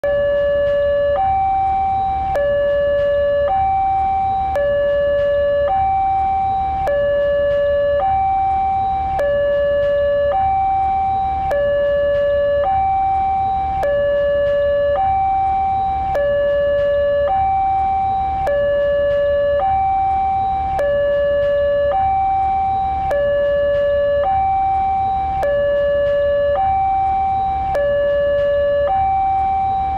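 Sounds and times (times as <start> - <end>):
low hum: 0.0 - 29.9
two-tone crossing alarm: 0.0 - 29.9.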